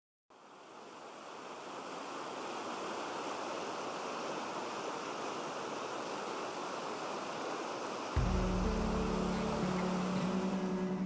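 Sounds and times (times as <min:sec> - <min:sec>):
rushing water: 0:00.3 - 0:11.0.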